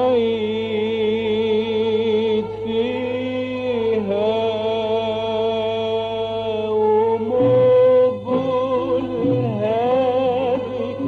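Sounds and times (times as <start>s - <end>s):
singing with vibrato: 0.0s - 11.0s.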